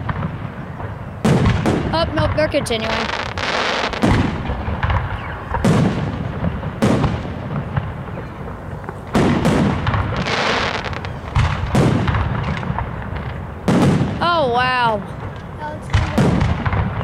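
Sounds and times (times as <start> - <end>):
firework booms: 0.0 - 17.0
firework crackle: 0.0 - 17.0.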